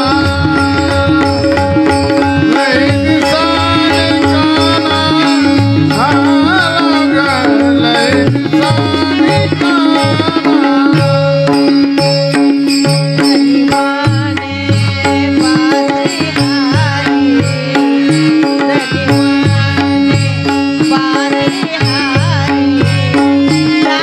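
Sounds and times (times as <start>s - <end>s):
hand drum rhythm: 0.0s - 24.0s.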